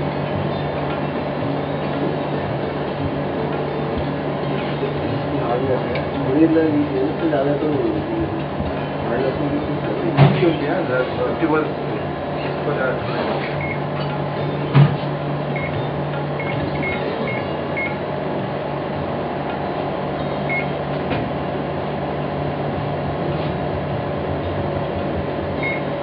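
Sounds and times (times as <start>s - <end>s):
machine electric hum: 0.0s - 26.0s.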